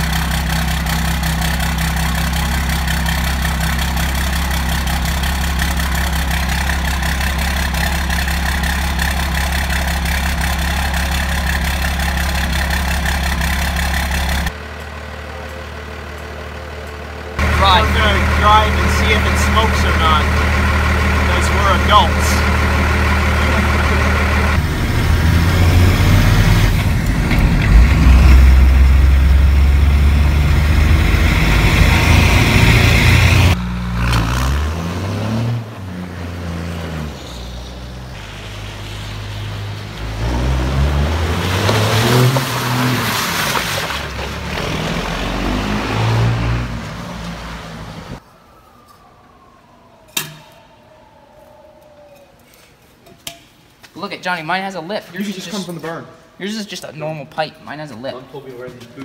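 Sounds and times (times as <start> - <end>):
diesel engine revving: 0.0 - 48.2.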